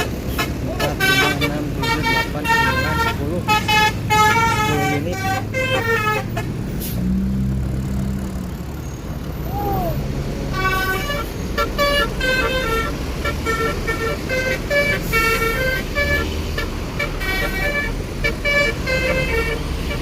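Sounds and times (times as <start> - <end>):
musical bus horn tune: 0.0 - 7.1, 10.5 - 20.0
bus traffic: 0.0 - 20.0.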